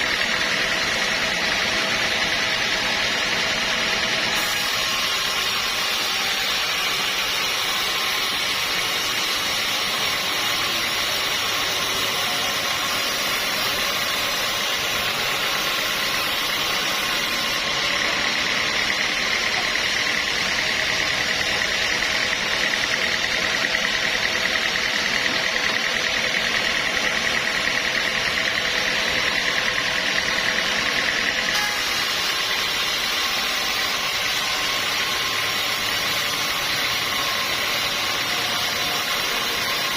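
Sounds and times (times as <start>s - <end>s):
high steady whine: 0.0s - 39.9s
sawmill machinery running: 0.0s - 39.9s.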